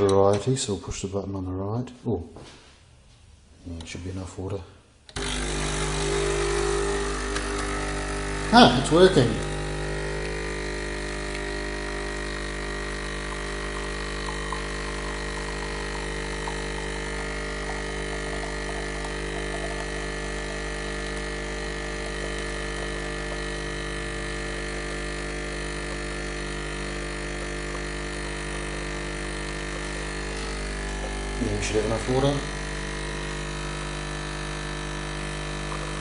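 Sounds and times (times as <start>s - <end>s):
coffee machine pump humming: 5.1s - 36.0s.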